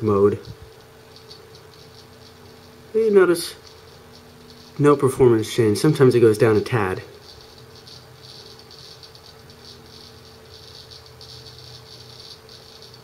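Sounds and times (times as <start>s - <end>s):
hard drive head rattling chatter: 0.0s - 13.0s
hard drive spindle hum: 0.0s - 13.0s.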